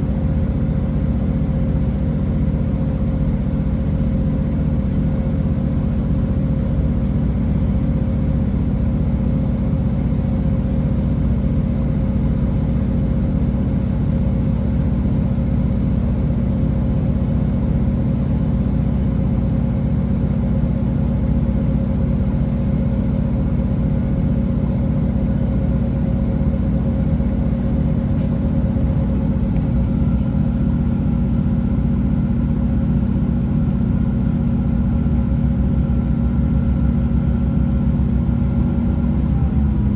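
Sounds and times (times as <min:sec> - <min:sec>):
train engine and running gear drone: 0:00.0 - 0:39.9.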